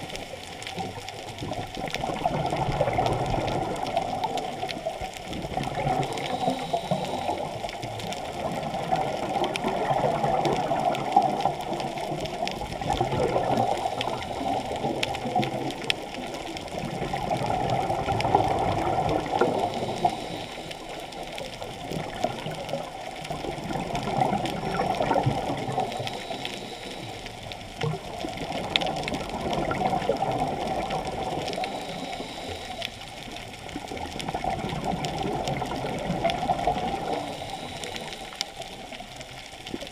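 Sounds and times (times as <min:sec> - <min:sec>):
muffled underwater rushing water: 0:00.0 - 0:39.9.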